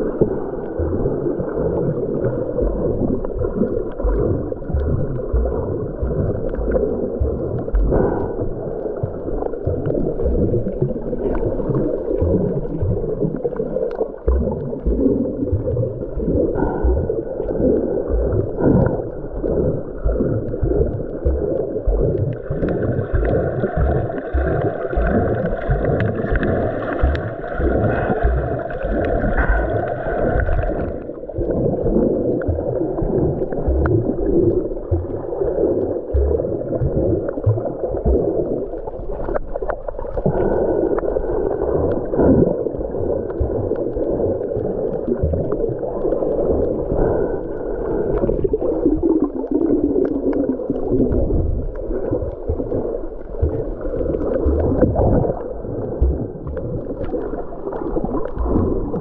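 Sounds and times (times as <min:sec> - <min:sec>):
rushing water and bubbles: 0:00.0 - 0:59.0
underwater gurgling and sloshing: 0:00.0 - 0:59.0.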